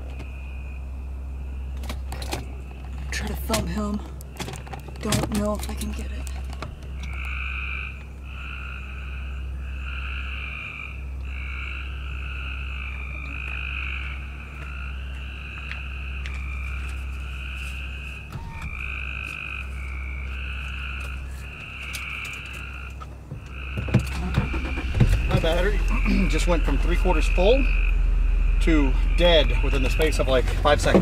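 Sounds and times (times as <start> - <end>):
frogs calling: 0.0 - 31.0
low rumble: 0.0 - 31.0.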